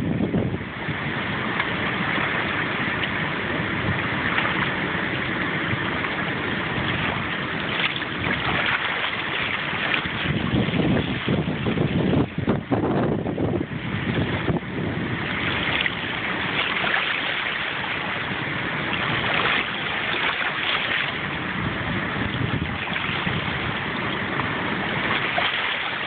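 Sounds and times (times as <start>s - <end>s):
water rushing from spillway: 0.0s - 26.0s
white water churning: 0.0s - 26.0s.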